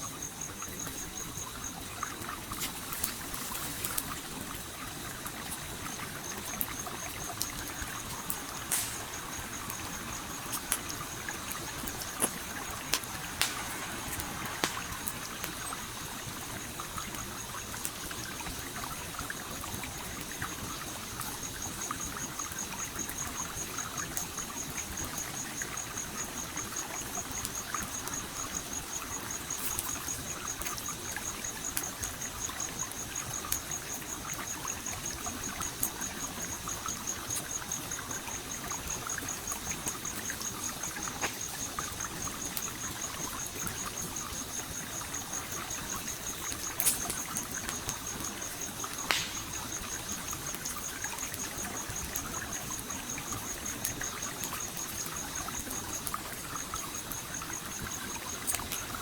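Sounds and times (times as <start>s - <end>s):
stream flowing and trickling: 0.0s - 59.0s
campfire popping and crackling: 0.1s - 59.0s.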